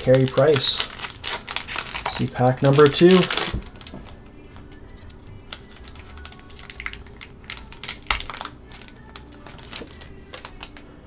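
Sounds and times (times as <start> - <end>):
wrapper tearing and crinkling: 0.0 - 4.2, 4.8 - 10.8.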